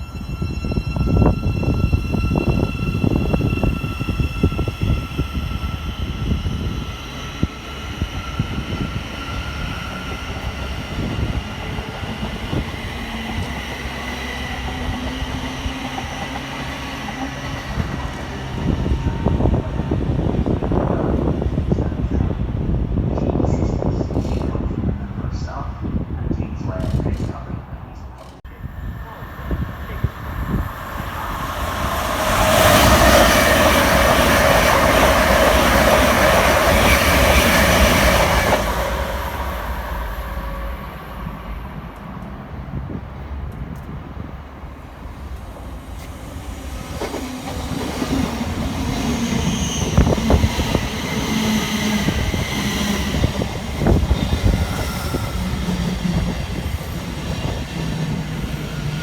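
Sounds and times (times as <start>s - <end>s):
train wheels rushing on rail: 0.2s - 26.0s, 26.6s - 59.0s.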